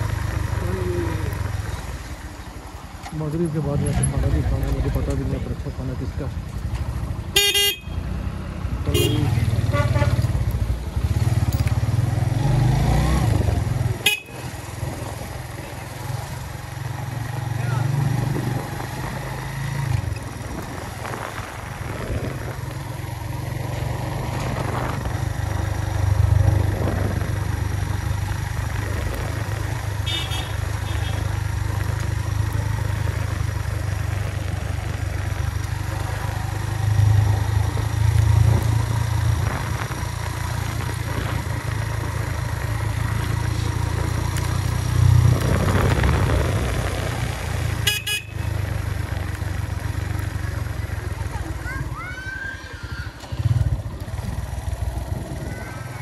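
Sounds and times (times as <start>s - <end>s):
motorcycle engine running: 0.0s - 52.0s, 53.2s - 56.0s.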